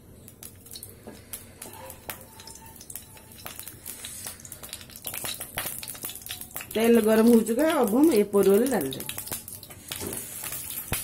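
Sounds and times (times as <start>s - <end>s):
oil crackling in a pan: 0.0s - 11.0s.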